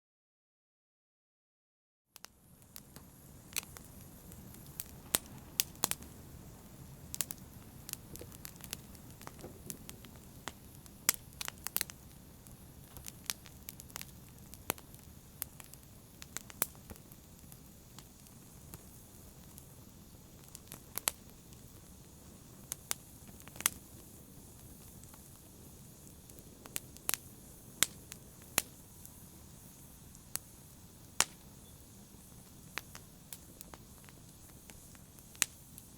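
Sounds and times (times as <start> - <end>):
campfire crackling and popping: 2.2 - 35.9
fire hissing: 2.2 - 35.9.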